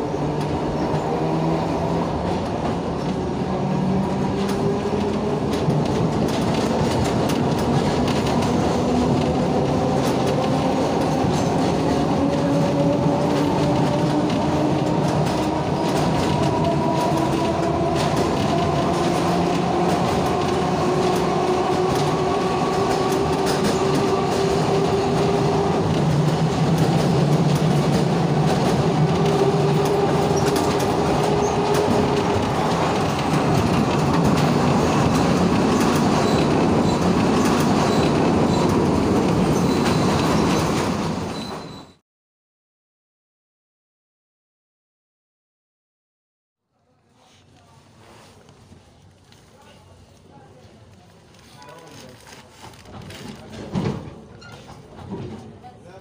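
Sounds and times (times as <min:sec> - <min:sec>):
tram wheels rumbling on rail: 0:00.0 - 0:42.0, 0:48.0 - 0:56.0.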